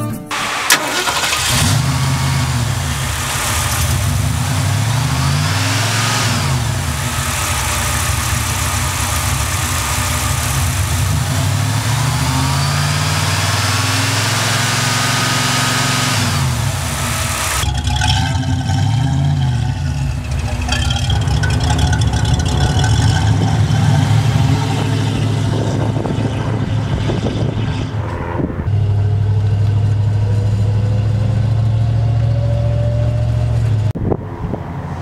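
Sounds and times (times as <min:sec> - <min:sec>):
car engine starting and revving: 0:00.3 - 0:35.0.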